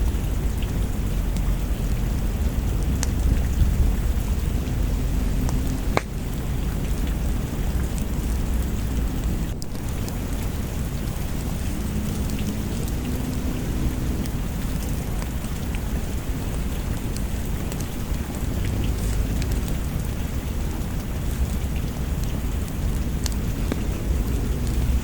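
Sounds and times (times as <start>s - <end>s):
steady rain: 0.0s - 25.0s
wood fire crackling: 0.0s - 25.0s.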